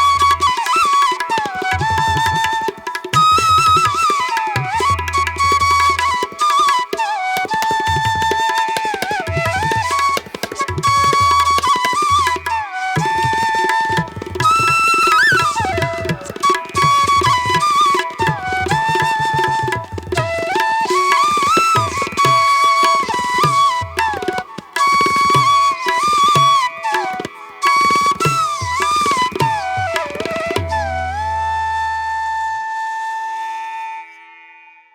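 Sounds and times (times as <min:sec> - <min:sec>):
tabla rhythm: 0:00.0 - 0:32.8
flute melody: 0:00.0 - 0:34.6.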